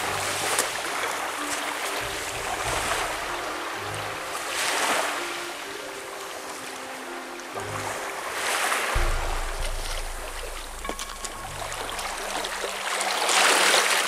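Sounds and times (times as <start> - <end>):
quiet background music: 0.0 - 14.0
sea waves washing on shore: 0.0 - 14.0.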